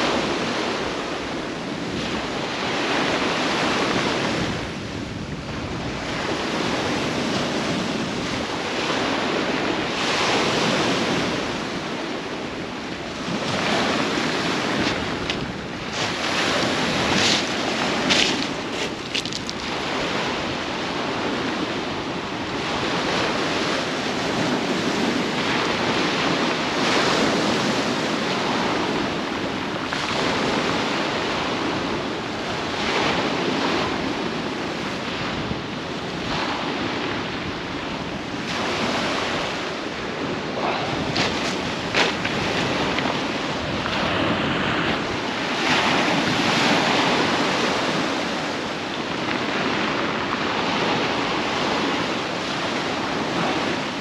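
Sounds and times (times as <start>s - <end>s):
waves breaking on shingle beach: 0.0s - 54.0s
wind buffeting microphone: 0.0s - 54.0s.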